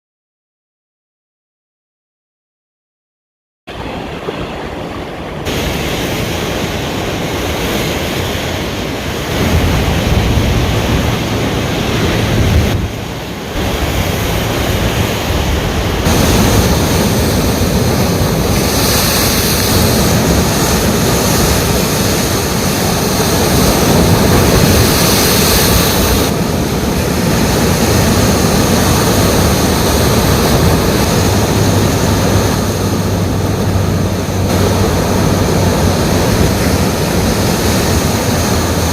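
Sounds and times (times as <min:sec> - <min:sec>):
ocean surf rushing: 0:03.7 - 0:38.9.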